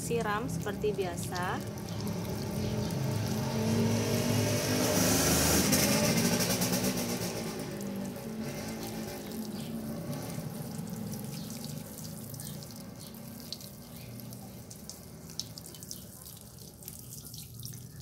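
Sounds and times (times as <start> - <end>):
water splashing on wet concrete: 0.0 - 18.0
watering can spraying water: 0.0 - 18.0.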